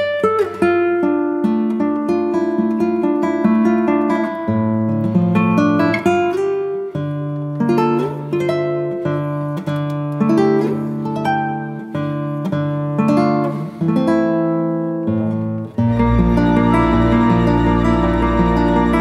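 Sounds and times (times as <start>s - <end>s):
acoustic guitar plucking and strumming: 0.0s - 19.0s.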